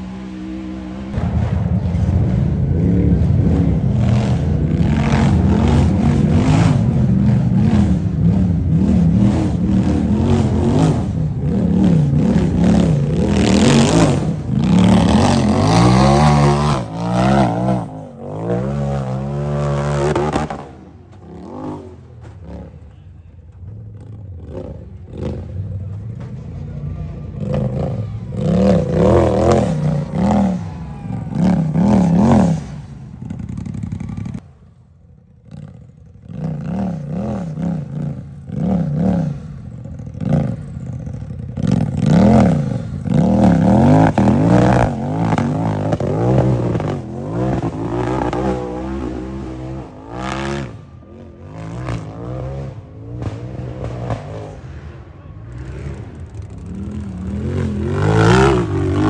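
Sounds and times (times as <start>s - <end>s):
engine revving: 0.0s - 22.8s, 24.0s - 34.4s, 35.5s - 59.0s.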